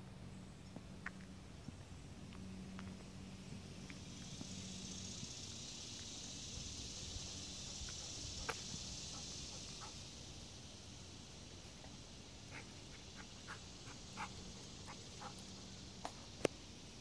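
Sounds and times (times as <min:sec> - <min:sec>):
high-pitched insect chorus: 0:01.7 - 0:17.0.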